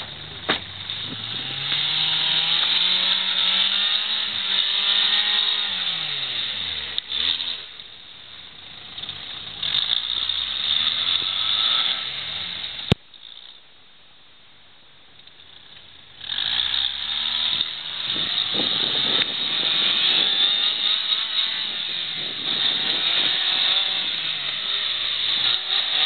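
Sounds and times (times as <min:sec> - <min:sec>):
car engine revving: 0:00.0 - 0:07.8, 0:08.5 - 0:13.0, 0:16.1 - 0:26.0.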